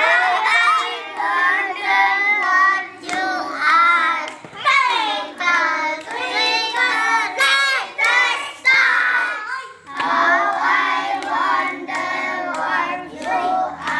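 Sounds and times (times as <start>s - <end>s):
children singing: 0.0s - 13.9s.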